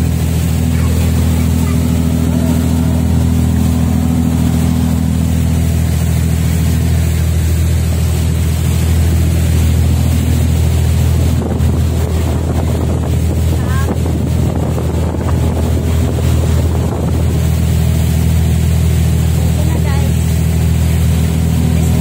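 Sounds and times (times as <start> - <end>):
boat engine droning: 0.0 - 22.0
wind buffeting microphone: 0.0 - 22.0.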